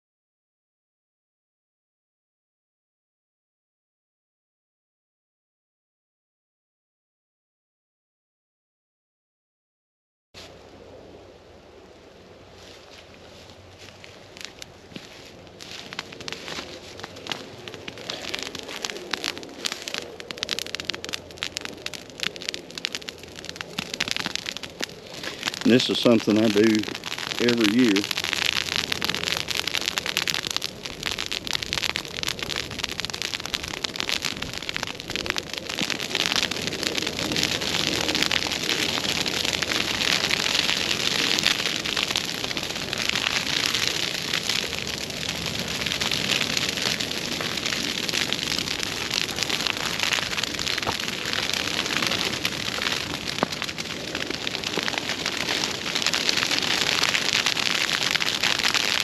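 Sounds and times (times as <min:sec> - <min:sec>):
dry grass burning crackling: 0:10.4 - 0:59.0.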